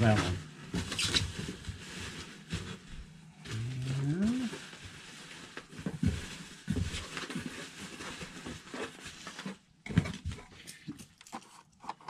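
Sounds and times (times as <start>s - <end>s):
items rustling in cardboard box: 0.0s - 12.0s.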